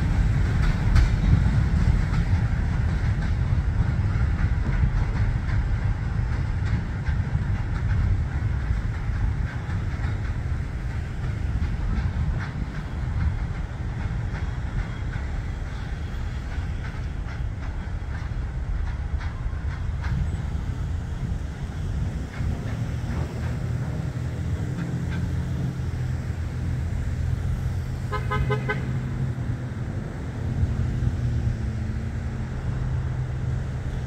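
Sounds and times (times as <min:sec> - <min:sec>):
freight train rumbling: 0:00.0 - 0:34.0
wheels clicking over rail joints: 0:00.0 - 0:34.0.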